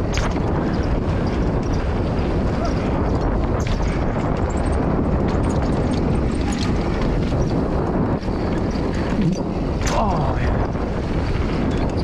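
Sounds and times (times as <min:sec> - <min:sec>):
bike rattling over rocks: 0:00.0 - 0:12.0
tyres rumbling on dirt: 0:00.0 - 0:12.0
wind buffeting microphone: 0:00.0 - 0:12.0.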